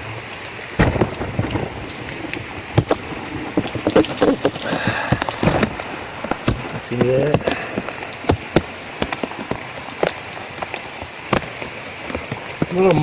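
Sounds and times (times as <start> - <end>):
sharp taps of raindrops: 0.0 - 13.0
steady rain: 0.0 - 13.0.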